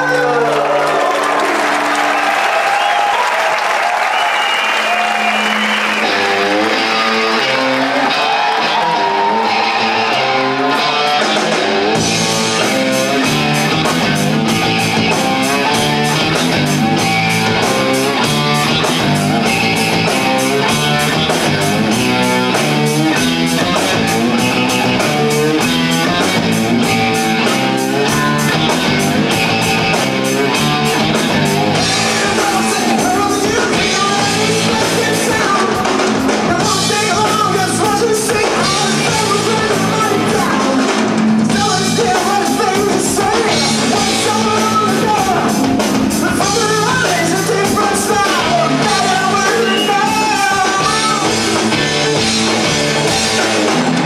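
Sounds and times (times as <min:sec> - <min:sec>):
electric guitar and bass riffs: 0:04.8 - 0:54.0.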